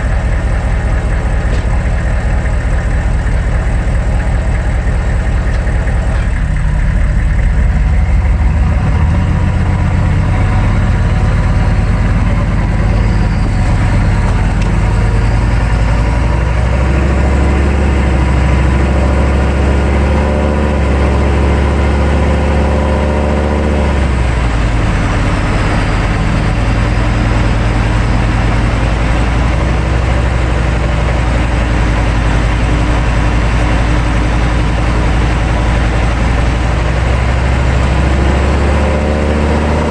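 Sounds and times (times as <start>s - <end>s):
diesel truck engine running: 0.0s - 39.9s
road noise: 0.0s - 39.9s.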